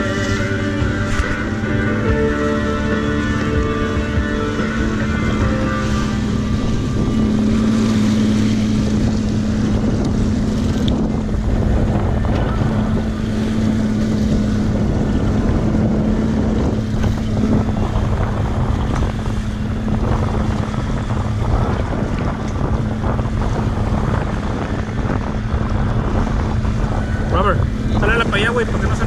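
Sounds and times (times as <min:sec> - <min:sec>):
boat motor humming: 0:00.0 - 0:29.0
wind buffeting microphone: 0:00.0 - 0:29.0.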